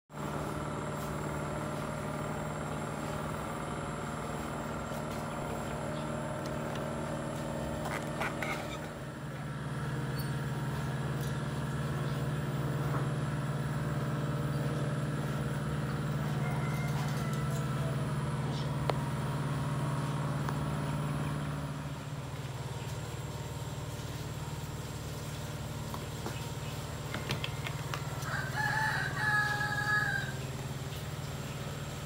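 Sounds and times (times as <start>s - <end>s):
low mechanical hum: 0.1s - 32.0s.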